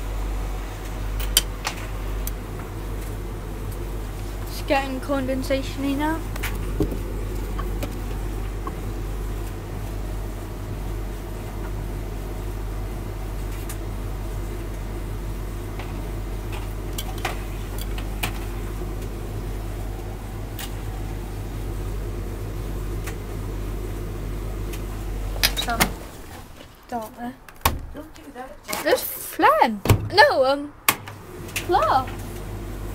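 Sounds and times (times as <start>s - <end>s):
tumble dryer running: 0.0s - 27.1s, 30.9s - 32.9s.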